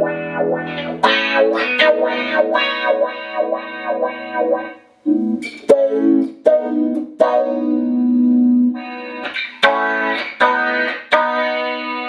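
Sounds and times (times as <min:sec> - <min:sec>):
clean electric guitar: 0:00.0 - 0:12.0.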